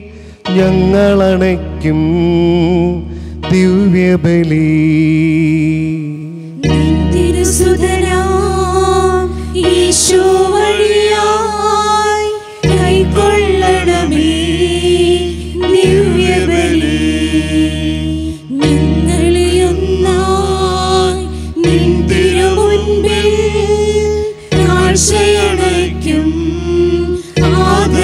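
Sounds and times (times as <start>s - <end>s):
person singing a hymn: 0.0s - 28.0s
sustained keyboard chords: 0.0s - 28.0s.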